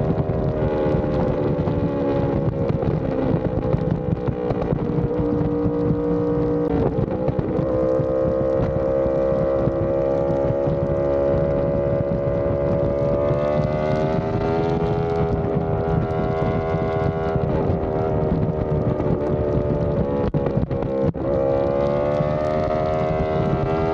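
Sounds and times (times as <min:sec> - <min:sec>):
motorcycle engine at speed: 0:00.0 - 0:23.9
wind rushing over microphone: 0:00.0 - 0:23.9.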